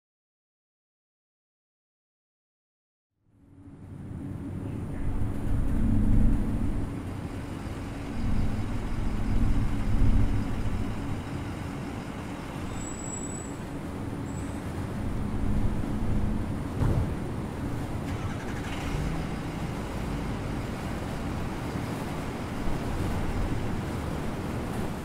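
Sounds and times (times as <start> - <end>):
heavy truck engine running: 3.7 - 25.0.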